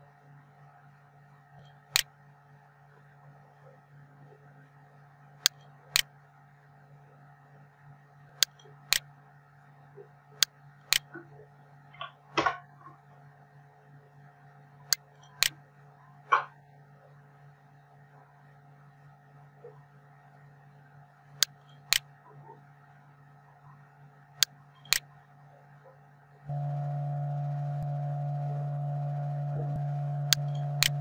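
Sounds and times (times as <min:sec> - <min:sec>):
faint electrical hum: 0:00.0 - 0:31.0.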